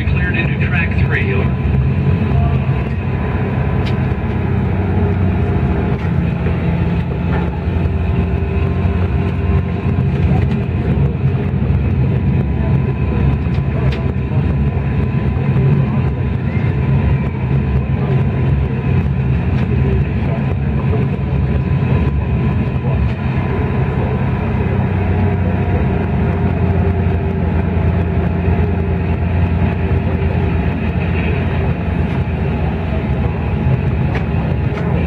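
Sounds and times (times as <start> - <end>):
locomotive low running rumble: 0.0 - 35.0.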